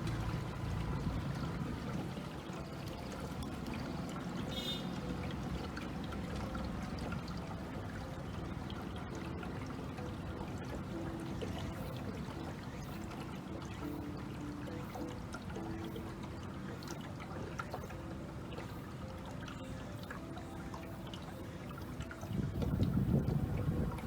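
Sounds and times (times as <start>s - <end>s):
water trickling around boat: 0.0s - 24.0s.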